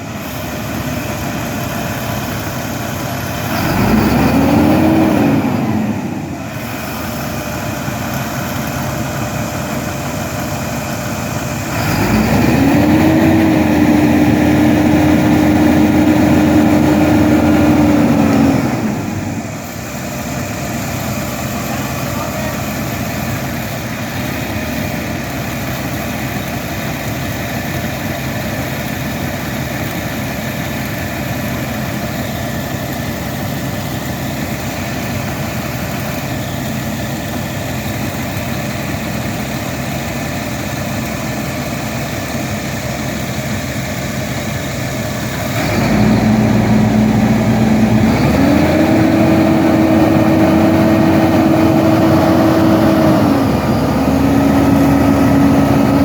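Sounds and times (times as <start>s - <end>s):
heavy machine engine idling: 0.0s - 56.0s
machine engine whine: 0.0s - 56.0s.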